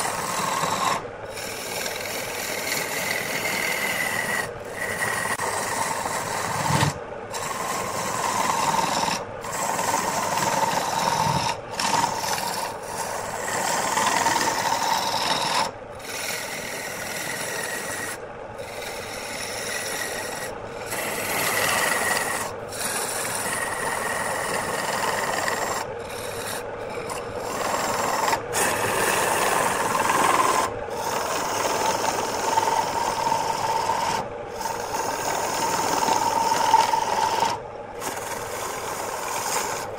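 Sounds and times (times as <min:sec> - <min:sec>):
lathe running tone: 0:00.0 - 0:39.9
steel tool scraping wood: 0:00.0 - 0:39.9.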